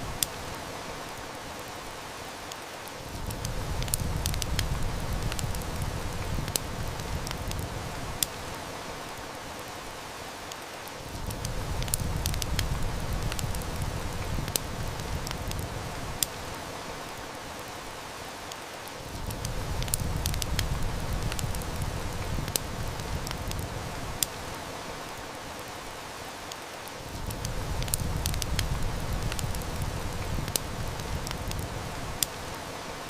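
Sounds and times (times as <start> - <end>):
heavy rain hiss: 0.0 - 33.0
wood fire crackling: 0.0 - 33.0.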